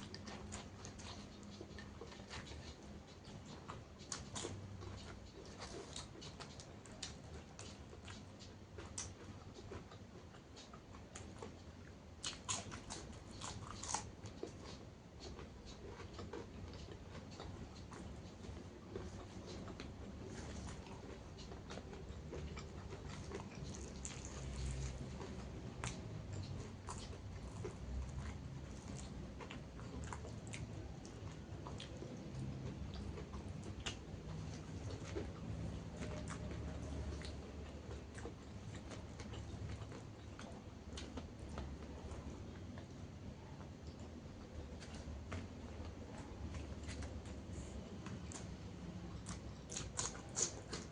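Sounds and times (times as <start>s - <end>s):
low steady hum: 0.0s - 50.9s
person chewing crunchy food: 0.0s - 50.9s.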